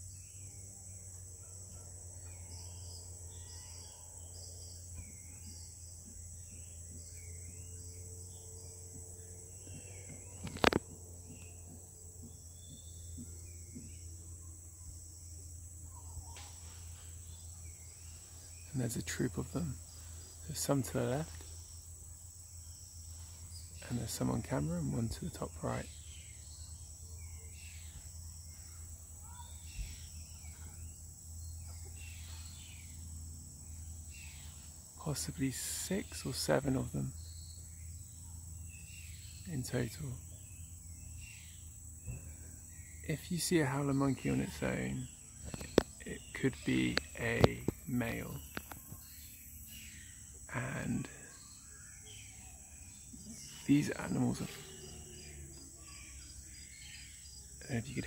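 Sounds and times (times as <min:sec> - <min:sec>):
faint bird chirps: 0:00.0 - 0:58.0
high-pitched insect drone: 0:00.0 - 0:58.0.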